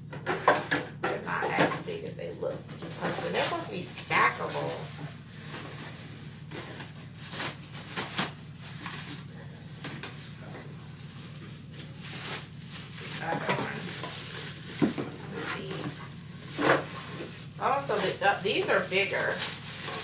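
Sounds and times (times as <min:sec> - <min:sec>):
rustling: 0:02.4 - 0:20.0.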